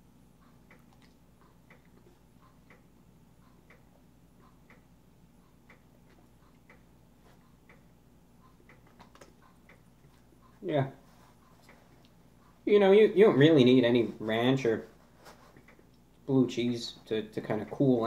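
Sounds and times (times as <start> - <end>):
clock ticking: 0.2 - 14.9, 15.5 - 18.0.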